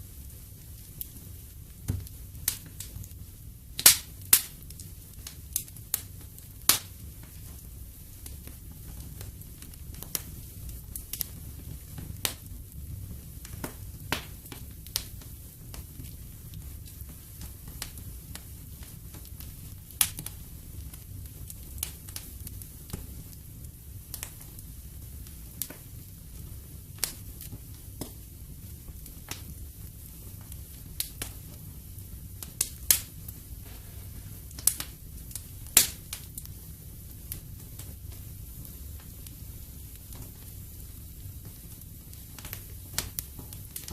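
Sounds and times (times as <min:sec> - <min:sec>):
fire popping: 0:00.0 - 0:43.9
low rumble of burning fire: 0:00.0 - 0:43.9
wood fire crackling: 0:00.0 - 0:43.9.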